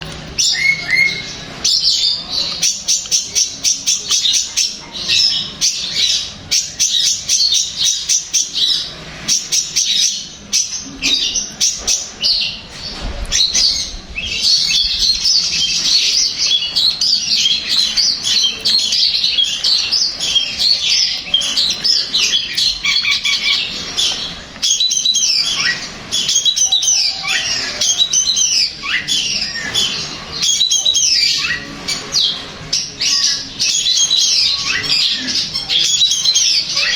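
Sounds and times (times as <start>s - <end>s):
bird chirping and squawking: 0.0s - 36.9s.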